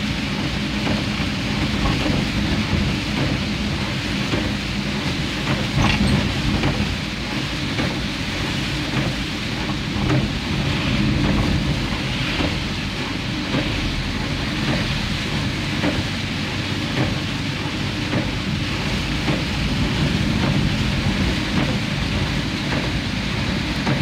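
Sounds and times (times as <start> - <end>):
engine and tyres on wet road: 0.0 - 24.0
heavy rain on a car: 0.0 - 24.0.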